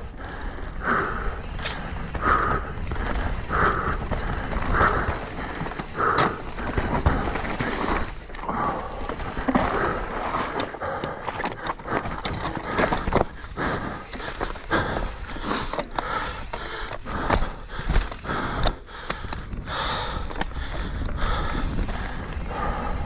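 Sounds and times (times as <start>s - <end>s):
bike rattles and knocks: 0.0s - 23.0s
bike tyre rumble: 0.0s - 23.0s
rider breathing hard: 0.0s - 23.0s.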